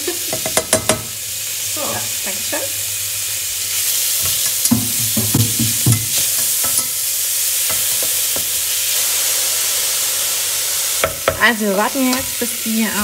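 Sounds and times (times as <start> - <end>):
onions sizzling in a pot: 0.0 - 13.0.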